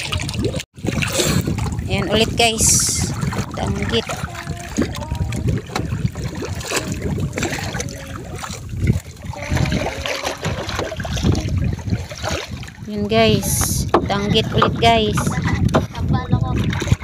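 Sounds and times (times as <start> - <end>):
sea water splashing: 0.0 - 17.0
low thumps against boat: 0.1 - 17.0.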